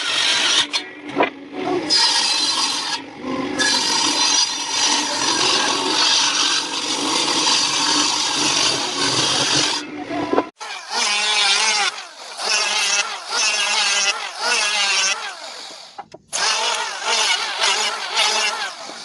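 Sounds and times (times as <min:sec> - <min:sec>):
power tool working wood: 0:01.6 - 0:19.0.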